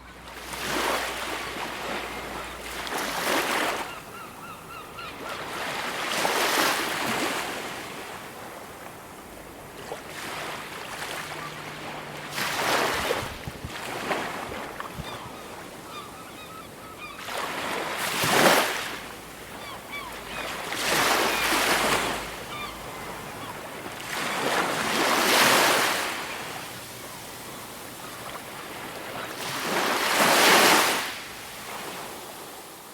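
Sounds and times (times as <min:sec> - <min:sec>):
ocean waves breaking on shore: 0:00.0 - 0:32.9.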